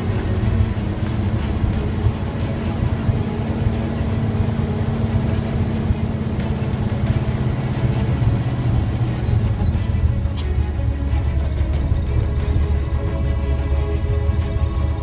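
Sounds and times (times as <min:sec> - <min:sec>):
pickup truck engine running: 0:00.0 - 0:15.0.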